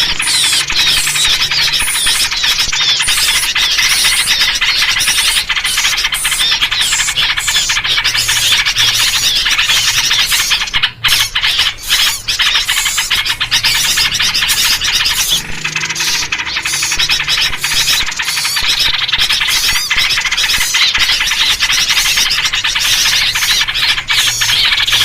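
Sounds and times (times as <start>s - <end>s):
small birds chattering and scolding: 0.0s - 25.0s.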